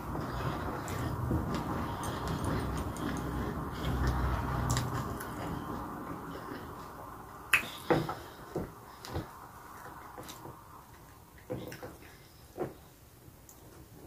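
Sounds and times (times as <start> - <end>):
quiet chewing: 0.2 - 13.9.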